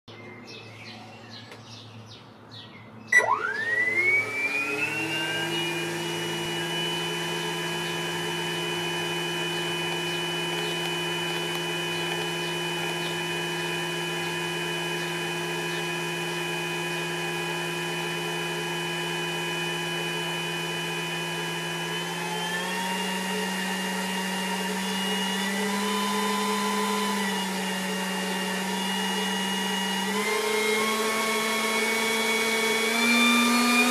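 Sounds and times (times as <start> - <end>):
electric ducted fan whine: 1.4 - 33.9.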